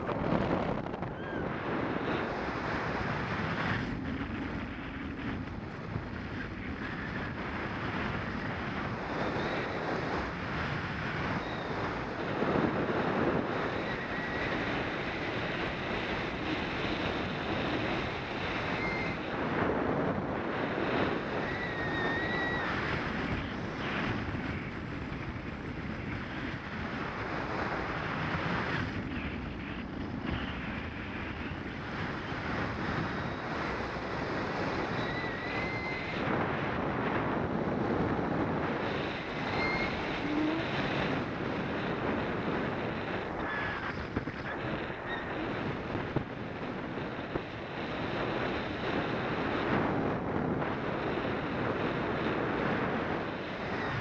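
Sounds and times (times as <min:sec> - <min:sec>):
airflow rushing over microphone: 0:00.0 - 0:54.0.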